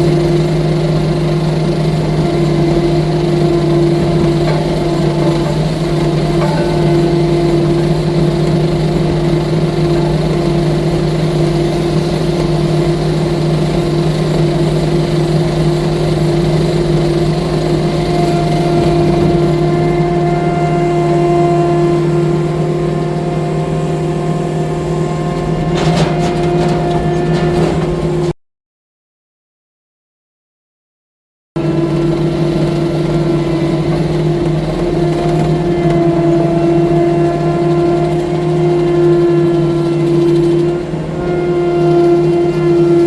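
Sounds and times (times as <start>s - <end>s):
loader engine running steadily: 0.0s - 28.3s, 31.6s - 43.0s.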